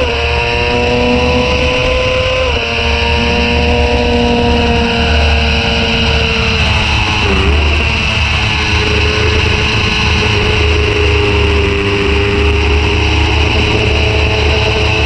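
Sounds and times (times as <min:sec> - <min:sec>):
motorcycle engine at high revs: 0:00.0 - 0:15.0
wind buffeting: 0:00.0 - 0:15.0.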